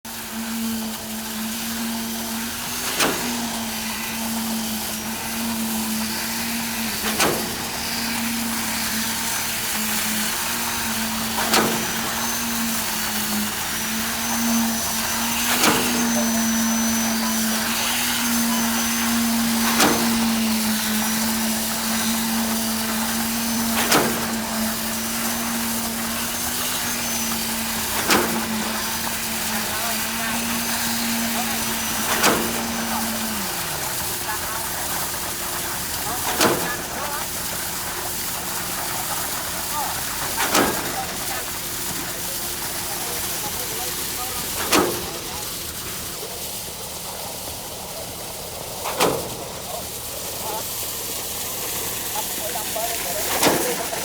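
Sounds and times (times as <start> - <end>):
construction machinery engine hum: 0.1 - 54.0.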